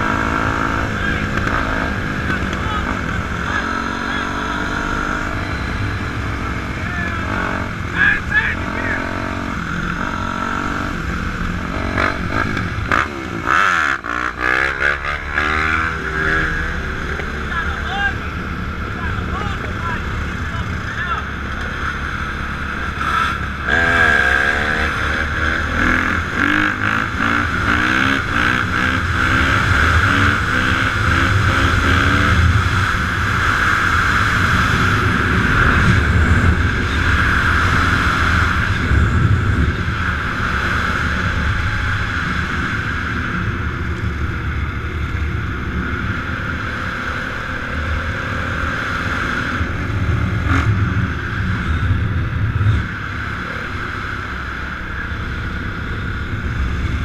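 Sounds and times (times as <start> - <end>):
motorbike engines revving: 0.0 - 57.0.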